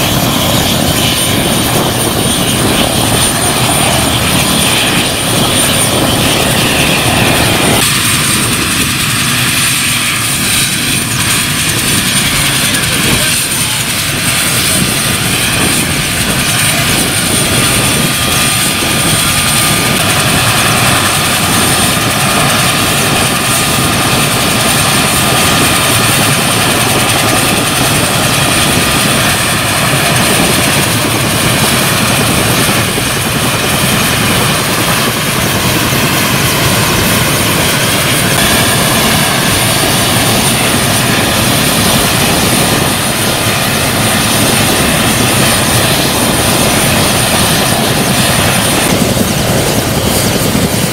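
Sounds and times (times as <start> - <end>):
helicopter engines and rotor: 0.0 - 50.9
high whine: 0.0 - 50.9.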